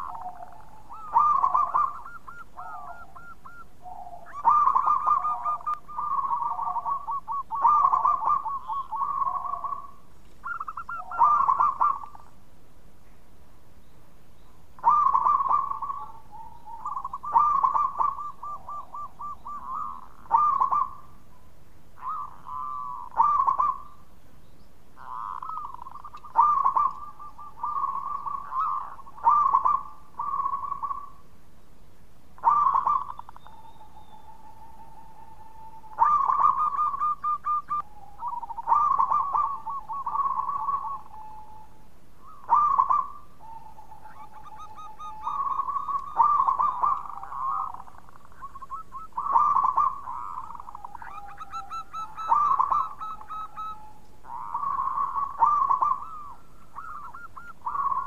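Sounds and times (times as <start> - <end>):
dove cooing: 0.0 - 12.4, 14.8 - 21.4, 22.0 - 24.1, 25.0 - 31.2, 32.4 - 58.0.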